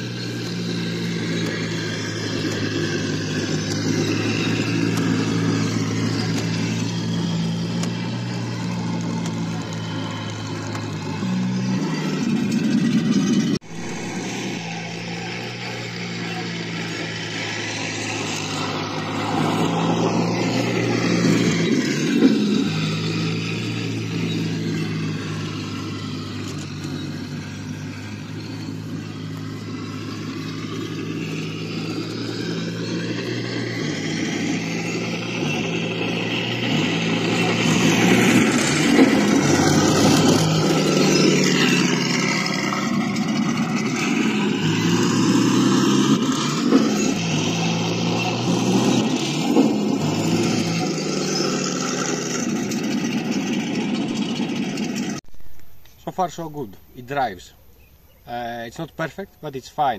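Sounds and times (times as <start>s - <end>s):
toy motor and gearbox whine: 0.0s - 56.4s.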